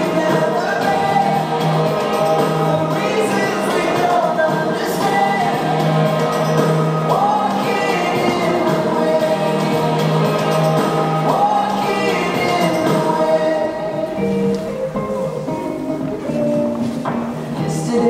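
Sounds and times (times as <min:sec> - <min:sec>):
person singing: 0:00.0 - 0:18.0.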